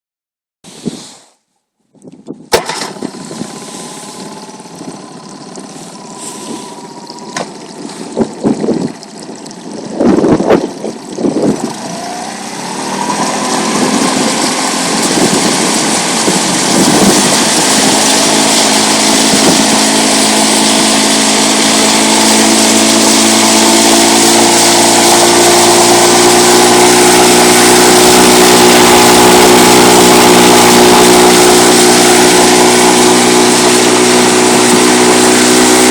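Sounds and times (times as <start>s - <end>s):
outboard motor starting and running: 2.0s - 35.9s.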